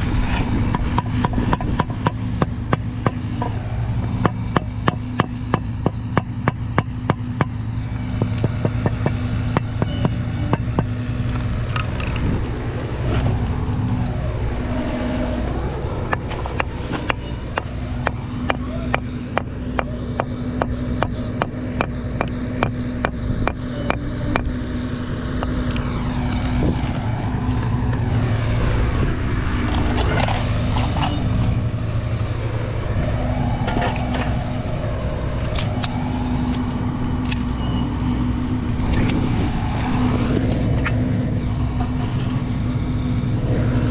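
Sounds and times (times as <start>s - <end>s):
car engine and road hum: 0.0s - 43.9s.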